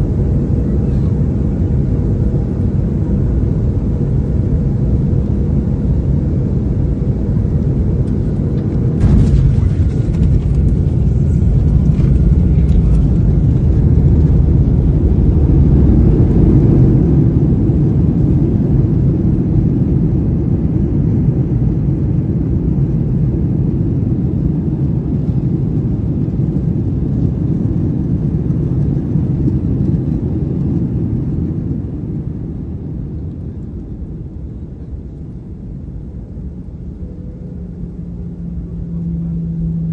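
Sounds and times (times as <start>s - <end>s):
airliner rollout rumble: 0.0s - 39.9s.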